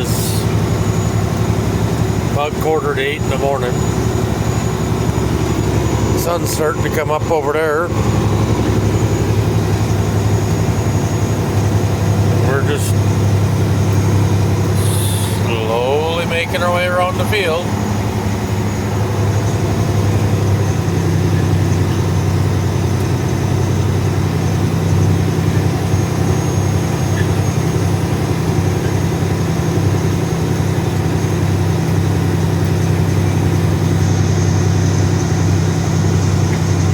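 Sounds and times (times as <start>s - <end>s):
farm vehicle engine running: 0.0s - 36.9s.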